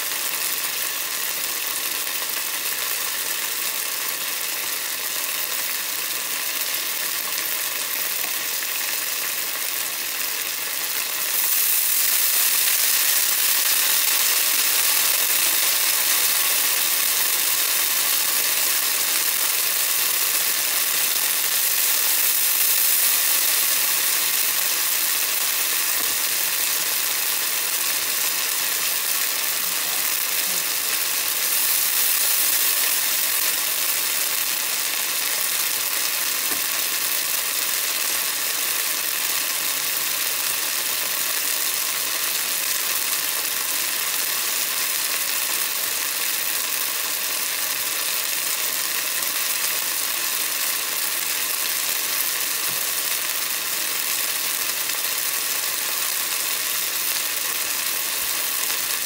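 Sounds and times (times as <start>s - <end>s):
vegetables sizzling in hot oil: 0.0s - 59.0s.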